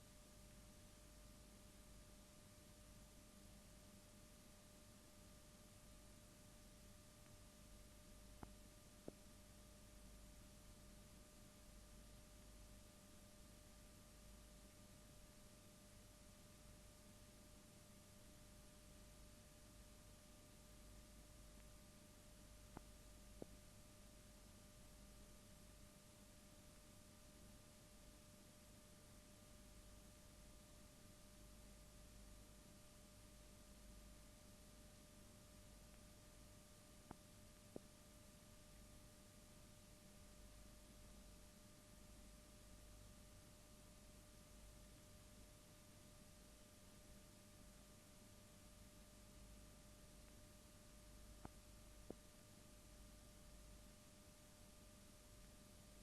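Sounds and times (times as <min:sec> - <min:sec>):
faint hiss and hum: 0:00.0 - 0:56.0
thin steady whine: 0:00.0 - 0:56.0.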